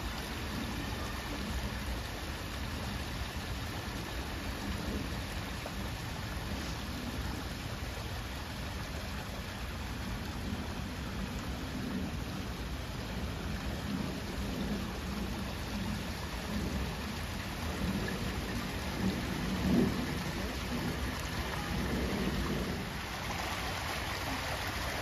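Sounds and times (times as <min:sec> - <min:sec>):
low uneven rumble: 0:00.0 - 0:25.0
steady rain: 0:00.0 - 0:25.0.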